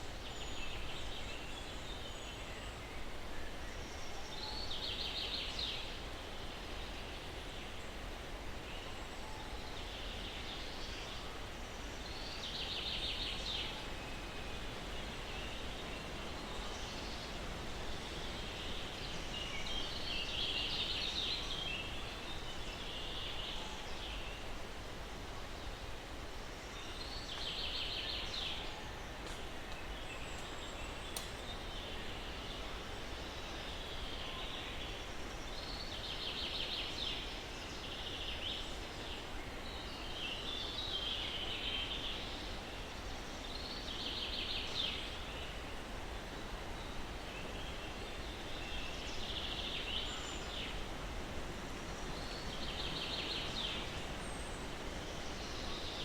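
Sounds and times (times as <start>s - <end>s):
breeze through pine trees: 0.0s - 56.0s.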